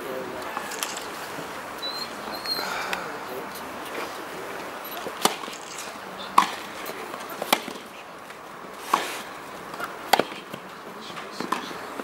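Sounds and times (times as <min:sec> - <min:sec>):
tennis racquets hitting ball: 0:00.4 - 0:12.0.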